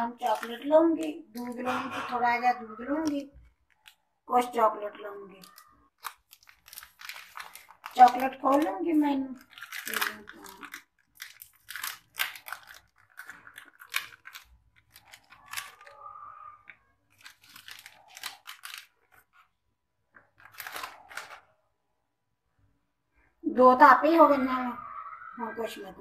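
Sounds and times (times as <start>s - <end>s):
wrapper crinkling and tearing: 0.0s - 19.6s, 20.2s - 21.6s.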